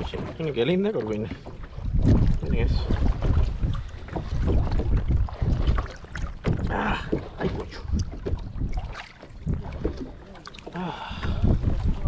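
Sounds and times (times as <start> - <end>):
wind buffeting microphone: 1.3 - 10.2, 10.8 - 12.0.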